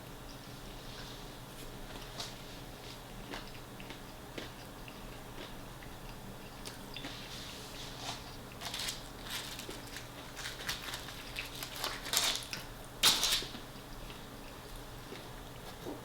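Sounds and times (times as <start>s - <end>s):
fried chicken chewing: 1.9s - 7.4s, 8.1s - 16.0s.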